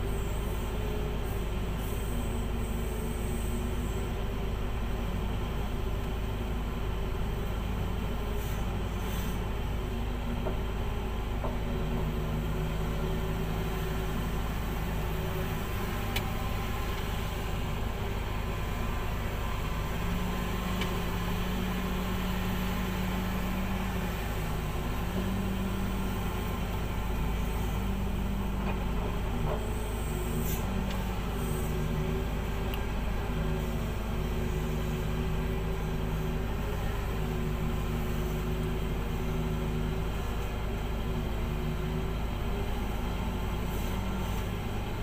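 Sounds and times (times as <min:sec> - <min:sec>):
excavator diesel engine rumble: 0:00.0 - 0:45.0.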